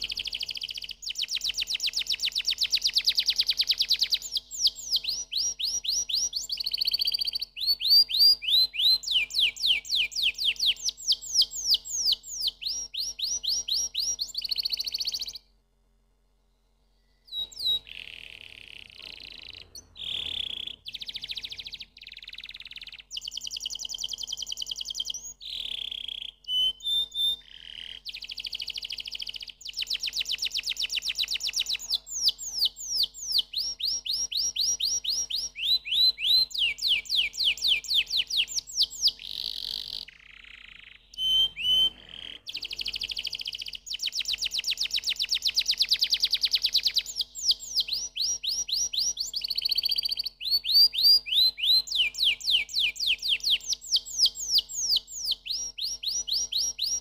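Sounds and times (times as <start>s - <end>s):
canary singing: 0.0s - 15.5s, 17.2s - 57.0s.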